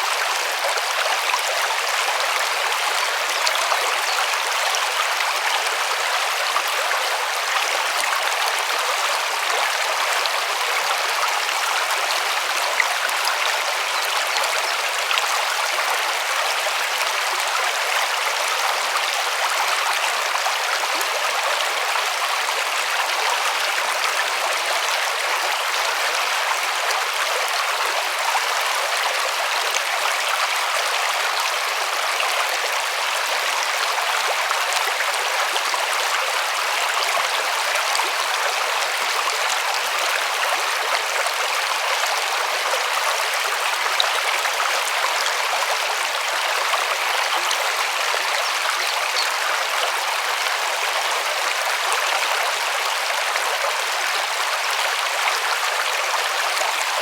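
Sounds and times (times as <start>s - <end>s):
river water over stones: 0.0s - 57.0s.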